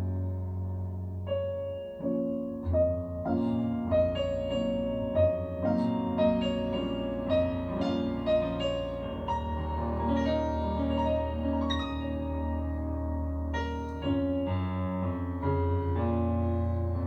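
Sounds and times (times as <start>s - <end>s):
slow ballad on piano: 0.0s - 17.0s.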